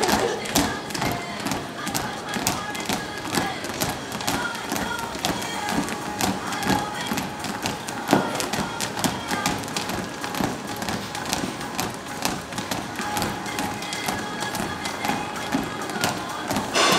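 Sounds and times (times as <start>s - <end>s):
music: 0.0s - 16.9s.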